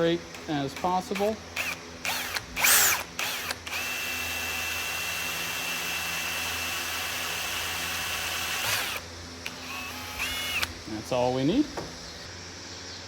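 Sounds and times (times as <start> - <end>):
power drill whining: 0.3 - 10.9.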